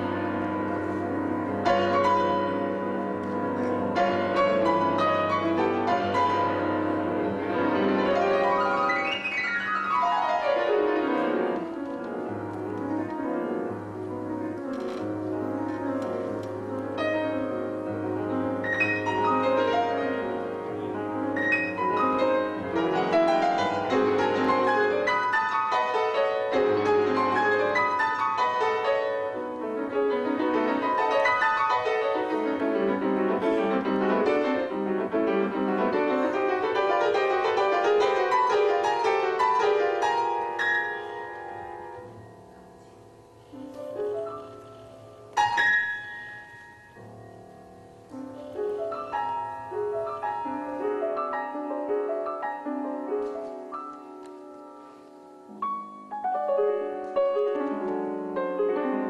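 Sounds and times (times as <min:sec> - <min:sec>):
solo piano playing: 0:00.0 - 0:59.0.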